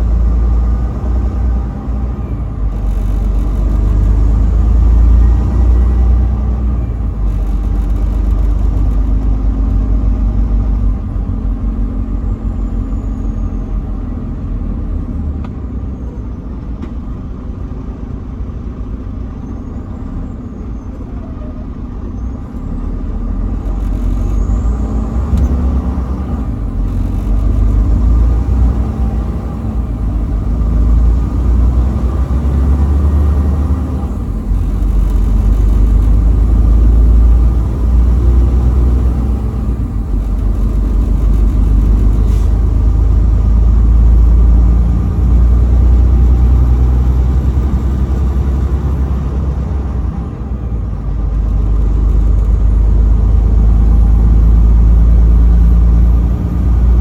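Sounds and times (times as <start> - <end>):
truck engine and road rumble: 0.0 - 57.0.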